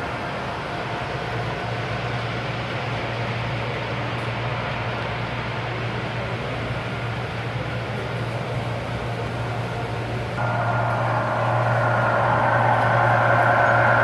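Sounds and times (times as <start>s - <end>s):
rail noise: 0.0s - 14.0s.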